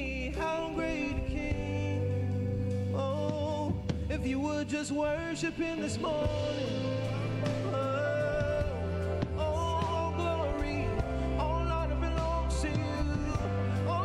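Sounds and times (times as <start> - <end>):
man singing into a microphone: 0.0 - 14.0
worship band playing: 0.0 - 14.0.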